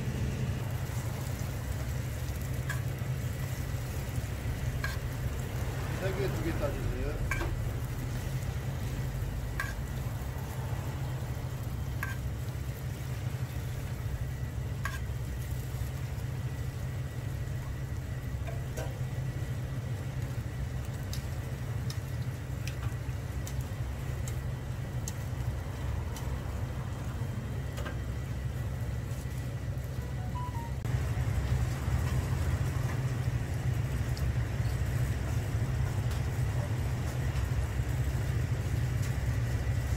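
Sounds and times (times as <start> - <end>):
pancake sizzling in oil: 0.0 - 30.0, 30.8 - 39.9
steady low rumble: 0.0 - 39.9.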